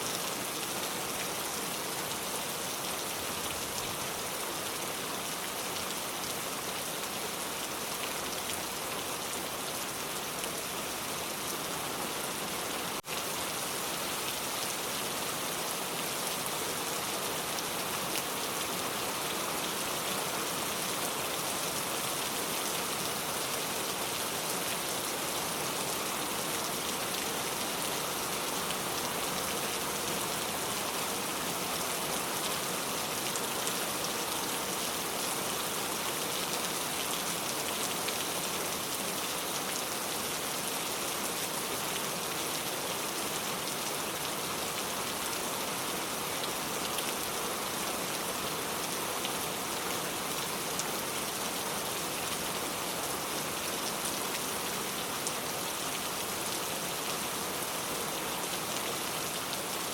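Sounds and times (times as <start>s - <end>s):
steady rain hissing: 0.0s - 59.9s.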